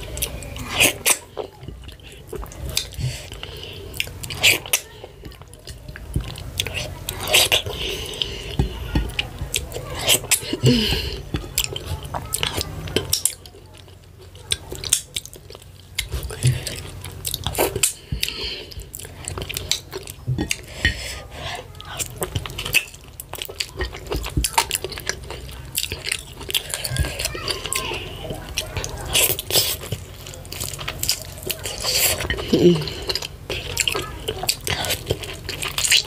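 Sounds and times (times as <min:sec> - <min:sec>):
chewing and wet mouth smacks: 0:00.0 - 0:21.0, 0:21.6 - 0:36.0.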